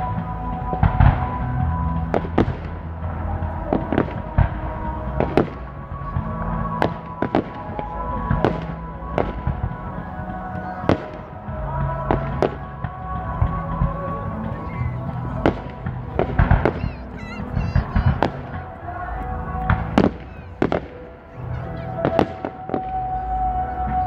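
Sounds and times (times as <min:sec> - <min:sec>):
fireworks bursting with bangs: 0:00.0 - 0:24.0
music playing: 0:00.0 - 0:24.0.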